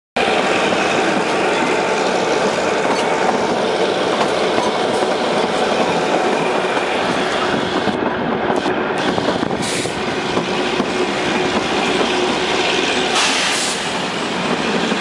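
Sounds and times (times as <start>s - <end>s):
train running noise: 0.2s - 15.0s.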